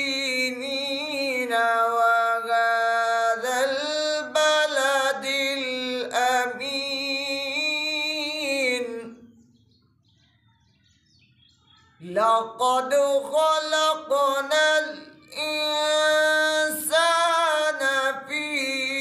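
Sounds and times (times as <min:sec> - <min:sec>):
man reciting in melodic chant: 0:00.0 - 0:09.5, 0:11.9 - 0:19.0.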